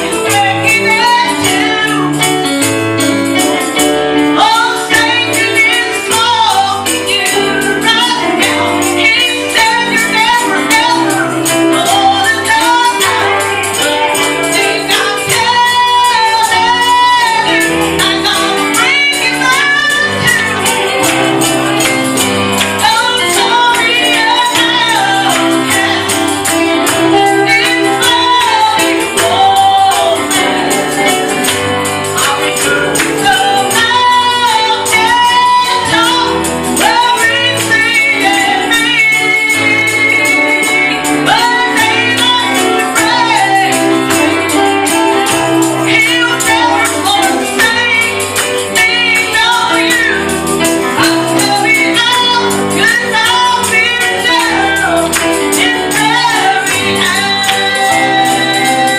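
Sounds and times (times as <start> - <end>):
woman singing gospel: 0.0 - 2.5, 4.1 - 58.9
tambourine shaken: 0.0 - 58.9.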